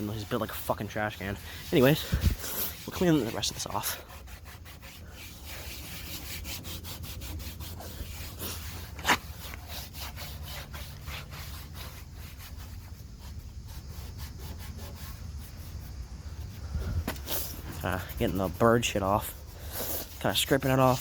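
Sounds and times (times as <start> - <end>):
scraping and rubbing on light fixture: 0.0 - 21.0.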